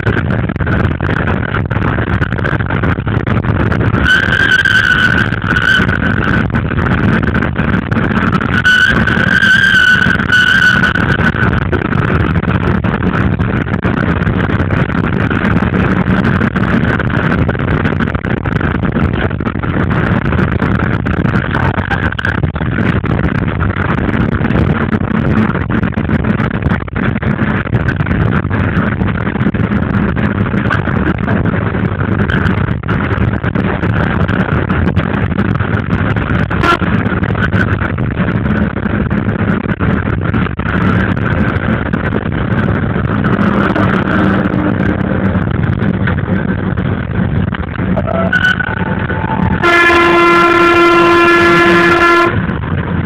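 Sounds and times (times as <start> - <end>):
train rumbling: 0.0 - 53.0
wheels clacking on rails: 0.0 - 53.0.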